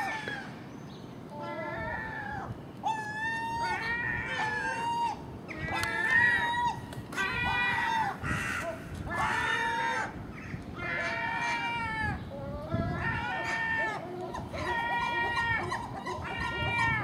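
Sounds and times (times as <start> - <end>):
gulls mewing calls: 0.0 - 17.0.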